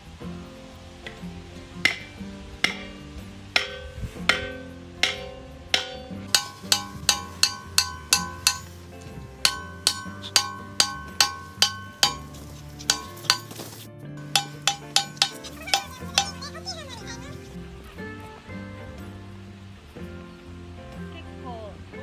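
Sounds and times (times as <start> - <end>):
light bouncy music: 0.0 - 22.0.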